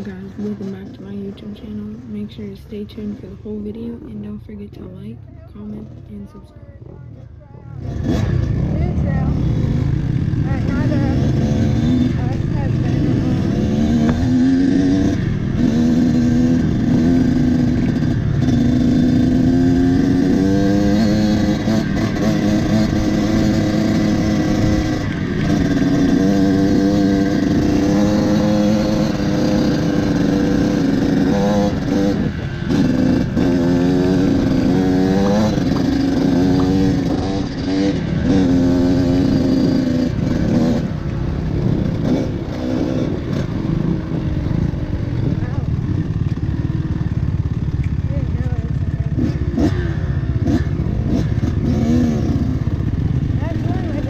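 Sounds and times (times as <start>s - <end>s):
dirt bike engine revving: 7.7s - 54.0s.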